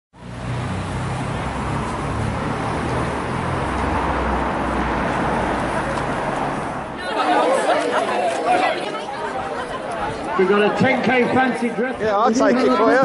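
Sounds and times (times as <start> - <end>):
cars passing: 0.2 - 13.0.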